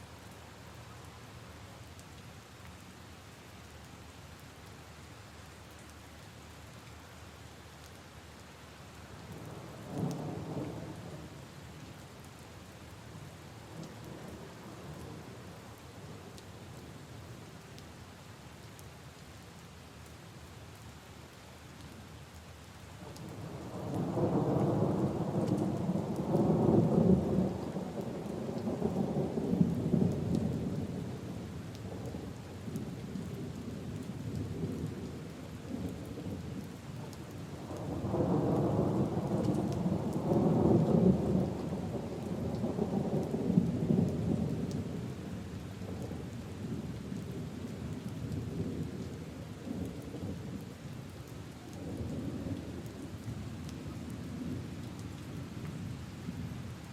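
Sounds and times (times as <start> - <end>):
rain on leaves and puddles: 0.0 - 56.9.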